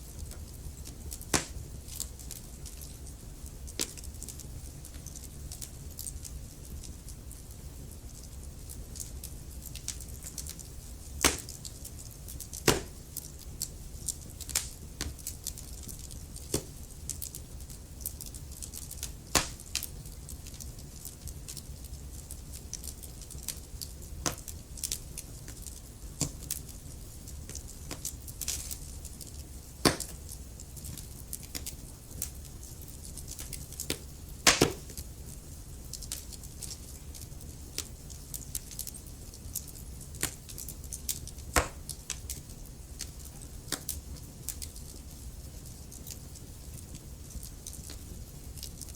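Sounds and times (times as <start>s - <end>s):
low rumble of flames: 0.0s - 48.9s
wood fire crackling: 0.0s - 48.9s.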